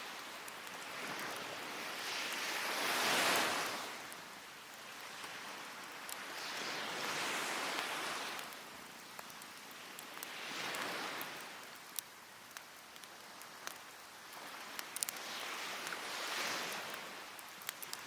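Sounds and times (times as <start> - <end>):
waves breaking on shore: 0.0 - 18.0
wood fire crackling: 0.0 - 18.0.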